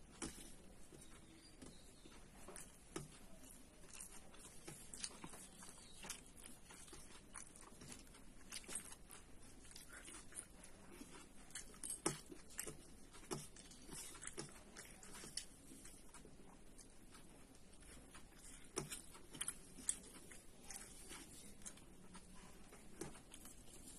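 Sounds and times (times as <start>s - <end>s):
chewing: 0.0s - 23.9s.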